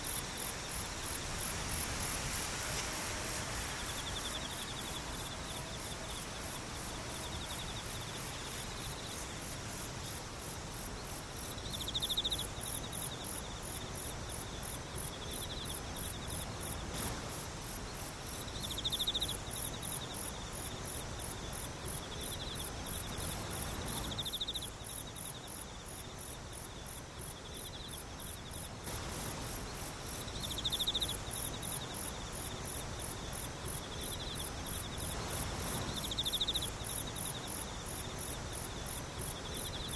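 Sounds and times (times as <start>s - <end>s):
high-pitched insect chirp: 0.0s - 39.9s
low steady insect trill: 0.0s - 39.9s.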